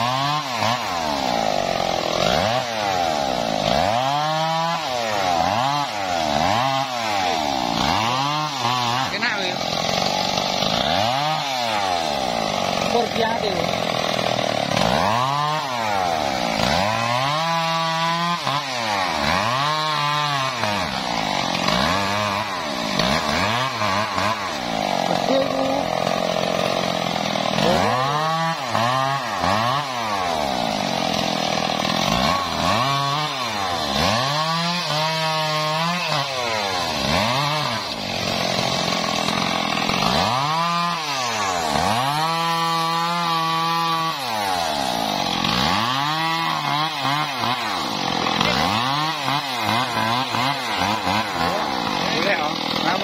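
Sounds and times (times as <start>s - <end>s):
chainsaw revving and cutting: 0.0s - 53.0s.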